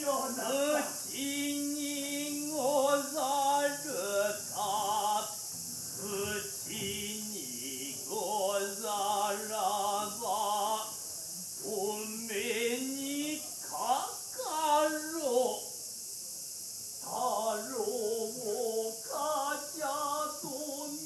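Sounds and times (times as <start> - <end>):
people chanting in stylized voices: 0.0 - 15.8, 17.0 - 21.0.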